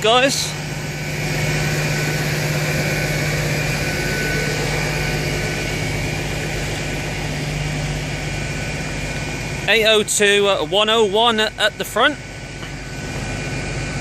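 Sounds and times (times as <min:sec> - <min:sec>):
faint high whine: 0:00.0 - 0:14.0
train diesel engines idling: 0:00.0 - 0:14.0.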